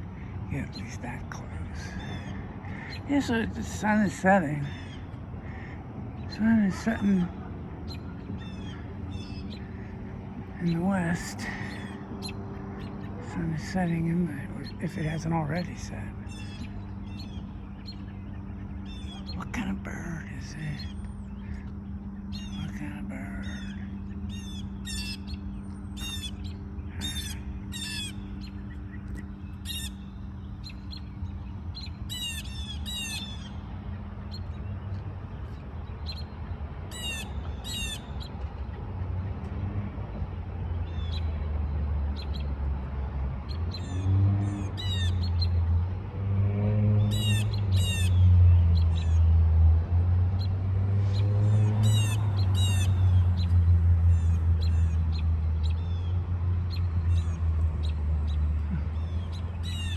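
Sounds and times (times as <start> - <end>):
small birds chirping: 0.0 - 46.0, 46.7 - 59.9.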